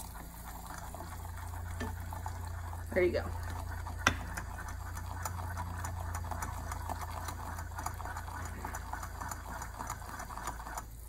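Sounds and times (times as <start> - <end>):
whisk clicking against pan: 0.0 - 11.0.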